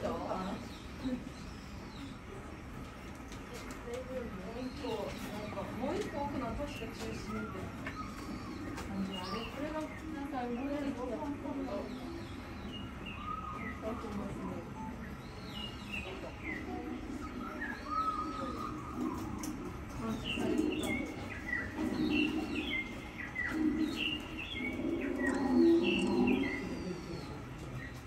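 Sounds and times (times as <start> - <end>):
murmur of distant voices: 0.0 - 28.0
small birds chirping: 0.0 - 28.0.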